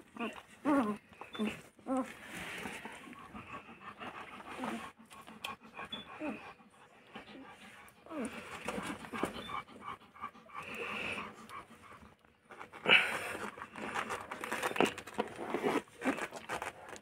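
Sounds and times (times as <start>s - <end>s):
puppies suckling and shuffling: 0.0s - 17.0s
dog panting: 0.3s - 14.2s.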